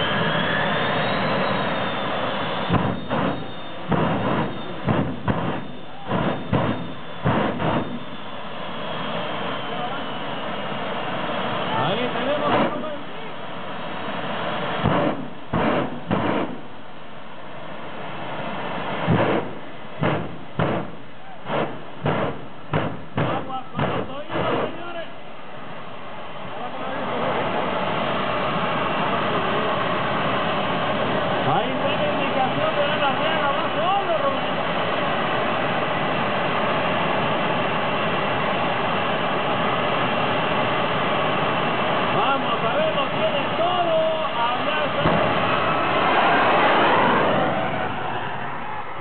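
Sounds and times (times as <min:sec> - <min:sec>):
jet turbine engine roar: 0:00.0 - 0:49.0.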